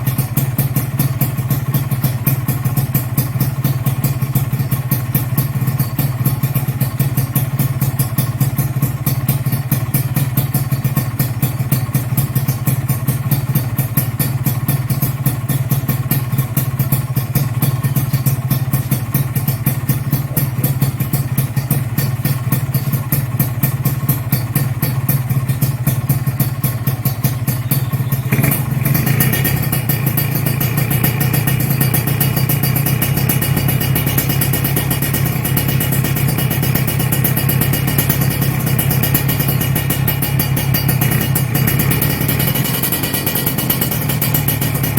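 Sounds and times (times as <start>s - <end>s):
two-stroke engine idling: 0.0s - 44.9s.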